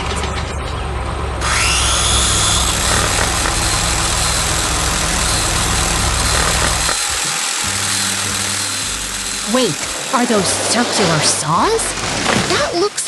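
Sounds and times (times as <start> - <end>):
low engine hum: 0.0 - 12.6
power saw cutting wood: 1.4 - 12.3.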